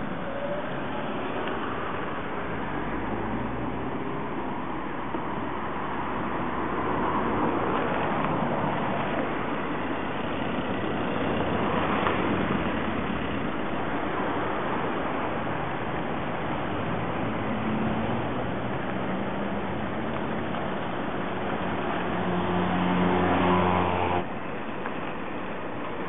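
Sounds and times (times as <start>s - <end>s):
car passing: 0.0s - 24.5s
road traffic rushing: 0.0s - 26.0s.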